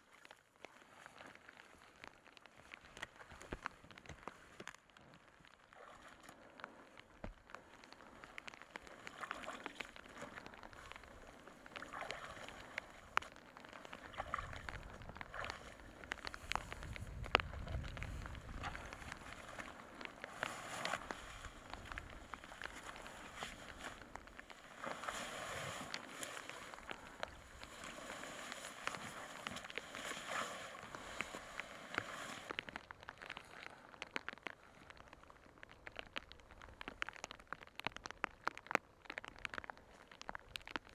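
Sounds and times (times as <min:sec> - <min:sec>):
branches and clothing rustling: 0:00.2 - 0:35.3
sharp ticks and snaps: 0:00.2 - 0:40.9
raindrops tapping on gear: 0:01.4 - 0:05.8, 0:06.4 - 0:25.2, 0:25.8 - 0:30.2, 0:30.8 - 0:40.9.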